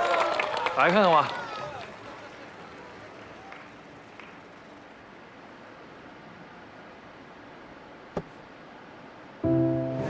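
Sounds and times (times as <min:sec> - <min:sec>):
faint background hiss: 0:01.5 - 0:10.0.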